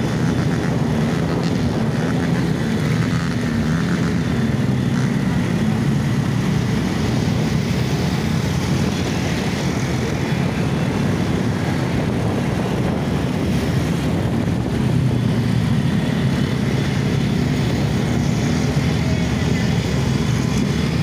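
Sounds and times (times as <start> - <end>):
motorcycle engines droning: 0.0 - 21.0.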